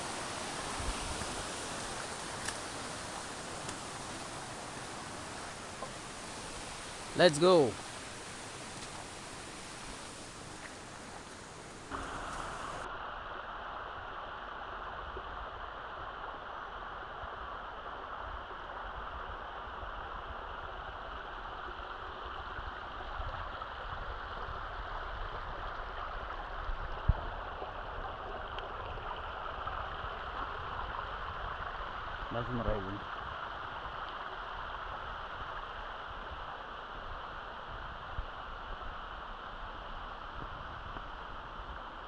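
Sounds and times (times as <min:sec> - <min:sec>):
rushing stream water: 0:00.0 - 0:42.0.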